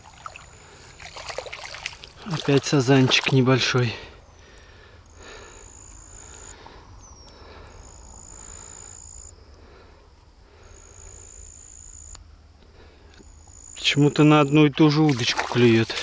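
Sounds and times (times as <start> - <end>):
insect buzzing trills: 0.0 - 16.0.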